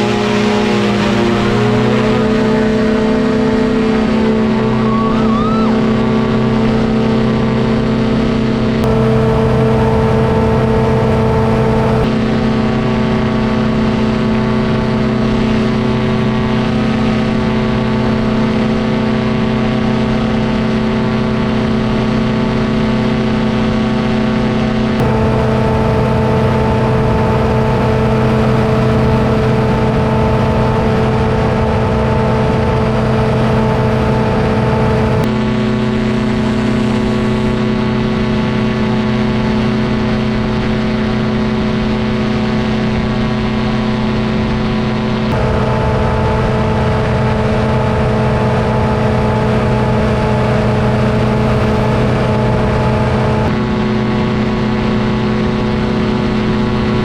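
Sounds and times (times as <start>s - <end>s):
paramotor engine and propeller drone: 0.0s - 57.0s.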